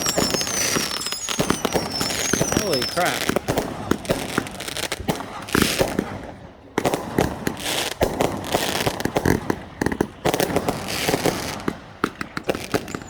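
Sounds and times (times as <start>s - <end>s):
fireworks bangs: 0.0s - 13.0s
fireworks crackling and popping: 0.0s - 13.0s.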